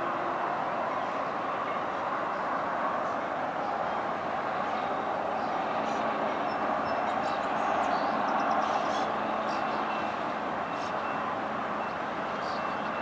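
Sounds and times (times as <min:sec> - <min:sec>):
diesel freight train rumbling: 0:00.0 - 0:13.0.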